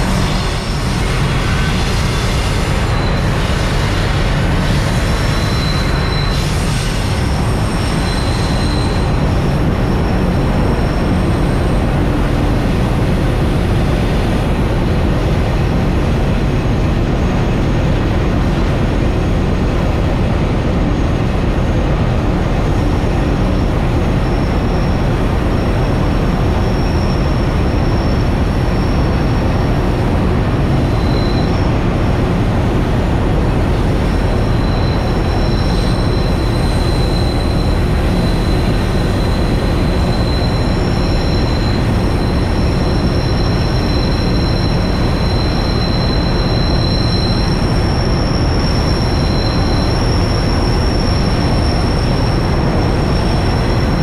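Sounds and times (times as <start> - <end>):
high wheel squeal: 0.0 - 54.0
locomotive engines and wheels rumbling: 0.0 - 54.0.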